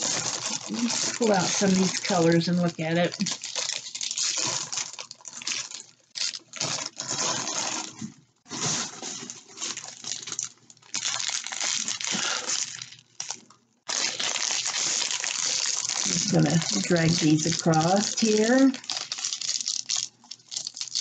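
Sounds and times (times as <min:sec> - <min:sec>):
plastic bags rustling: 0:00.0 - 0:21.0.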